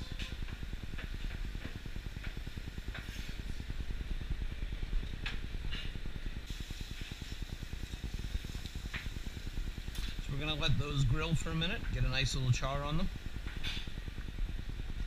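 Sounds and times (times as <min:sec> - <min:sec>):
gas burners rumbling: 0:00.0 - 0:15.0.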